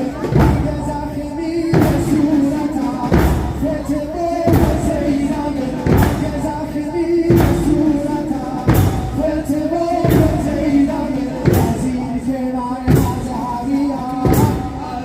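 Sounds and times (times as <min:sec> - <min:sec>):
group singing a lament: 0:00.0 - 0:15.0
heavy crashing beat: 0:00.0 - 0:15.0.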